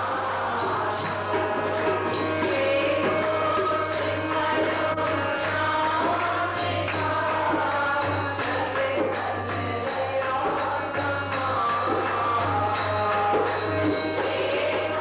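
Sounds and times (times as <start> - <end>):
harmonium melody: 0.0 - 15.0
percussion beat: 0.0 - 15.0.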